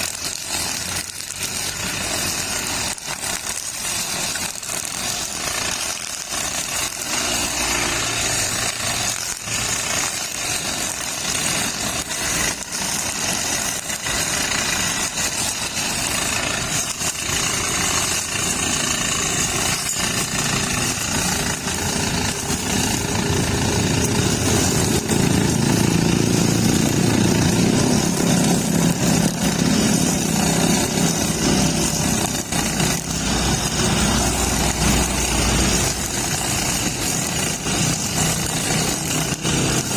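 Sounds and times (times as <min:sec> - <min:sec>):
petrol brush cutter running: 0:00.0 - 0:39.9.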